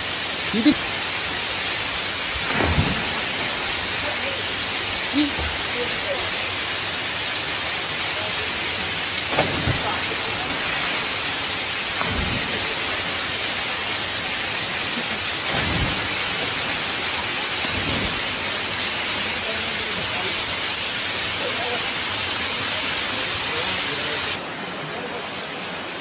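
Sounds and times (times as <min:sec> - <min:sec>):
rush of falling water: 0:00.0 - 0:26.0.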